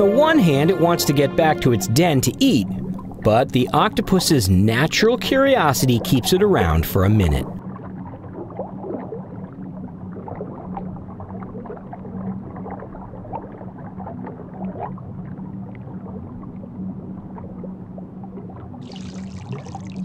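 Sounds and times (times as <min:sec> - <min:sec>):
low underwater hum: 0:00.0 - 0:20.0.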